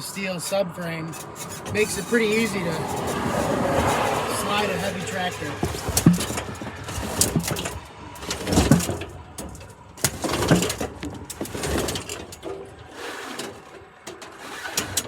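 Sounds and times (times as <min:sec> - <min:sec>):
wind buffeting microphone: 0:00.0 - 0:13.0
scraping on metal deck: 0:00.0 - 0:15.0
metal knocks and clicks: 0:01.1 - 0:15.0.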